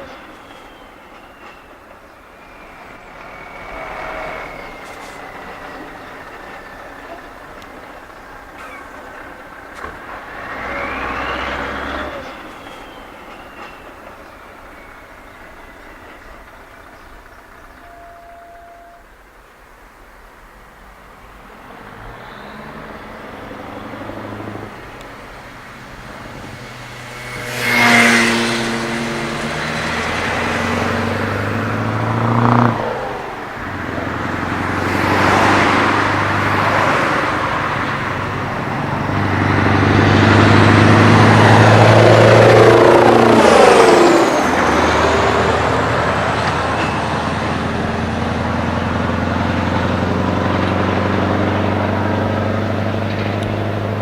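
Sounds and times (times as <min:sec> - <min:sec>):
diesel truck accelerating: 0:00.0 - 0:17.8, 0:21.1 - 0:54.0.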